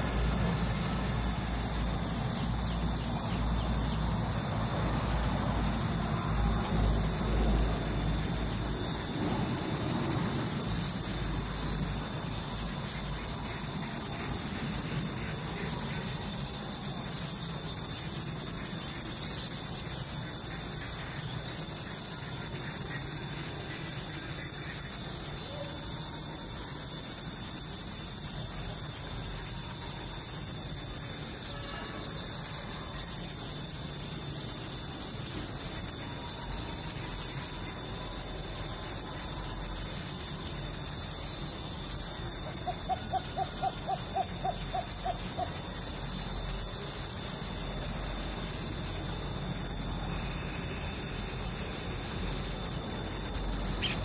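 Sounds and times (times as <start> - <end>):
insects shrilling: 0.0 - 54.0.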